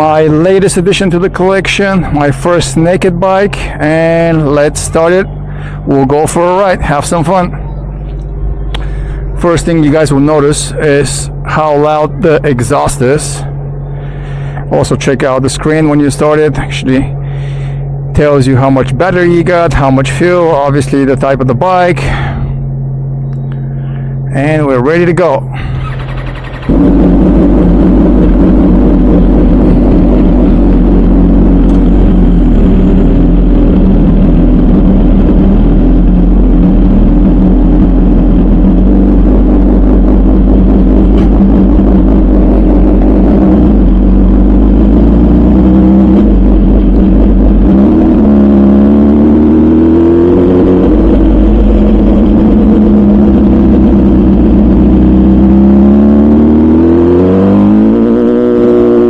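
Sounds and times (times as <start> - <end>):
motorcycle engine running loud: 0.0 - 59.0.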